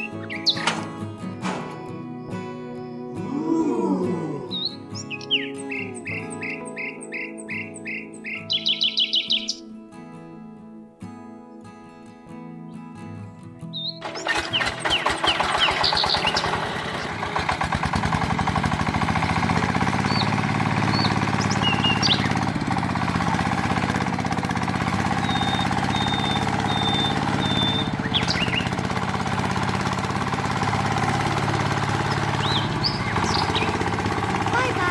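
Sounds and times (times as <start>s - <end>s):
small engine running: 0.0s - 7.3s, 14.0s - 34.9s
birds chirping: 0.0s - 9.9s, 12.6s - 34.9s.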